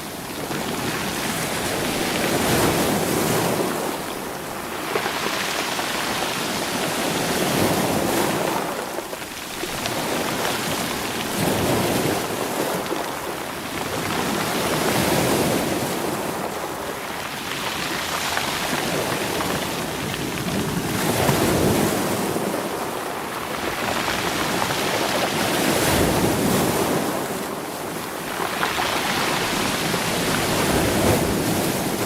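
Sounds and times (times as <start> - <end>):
waves washing over rocks: 0.0 - 32.0.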